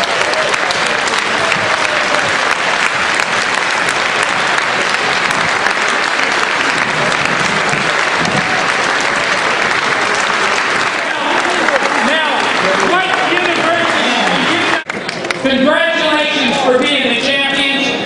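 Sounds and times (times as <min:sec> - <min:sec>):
crowd applauding: 0:00.0 - 0:16.2
crowd voices: 0:00.0 - 0:18.0.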